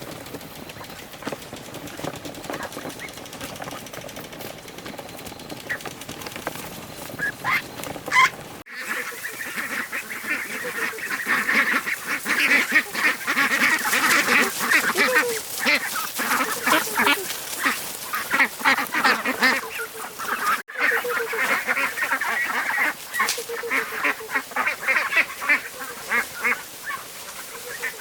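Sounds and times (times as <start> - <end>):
ducks quacking: 0.0 - 4.6, 5.5 - 28.0.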